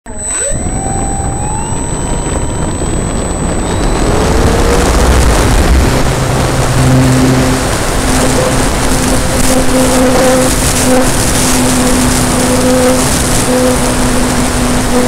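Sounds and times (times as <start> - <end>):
electric motor whine: 0.0 - 15.0
wind and propeller rush: 0.0 - 15.0.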